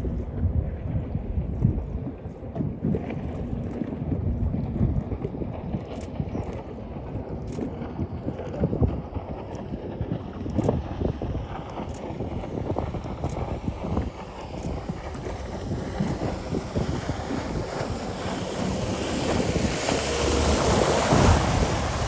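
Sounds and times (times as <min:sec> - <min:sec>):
jet ski engine: 0:00.0 - 0:22.0
water noise: 0:00.0 - 0:22.0
wind buffeting microphone: 0:00.0 - 0:22.0.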